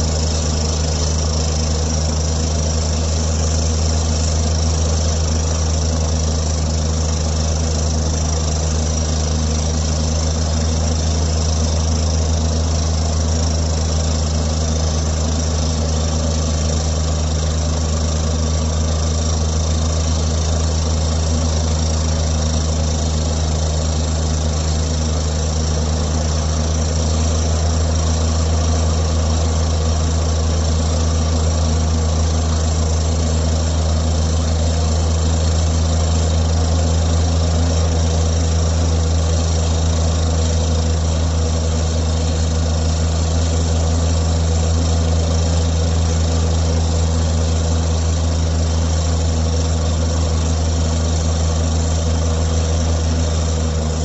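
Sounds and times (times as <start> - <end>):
hydraulic rock drill droning: 0.0 - 54.0.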